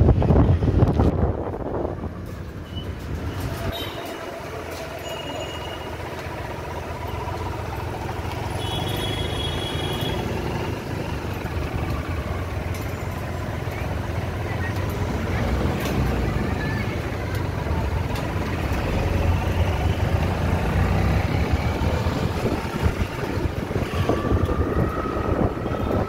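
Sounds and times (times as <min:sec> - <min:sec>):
motorcycle engine rumble: 0:00.0 - 0:26.0
street traffic: 0:00.0 - 0:26.0.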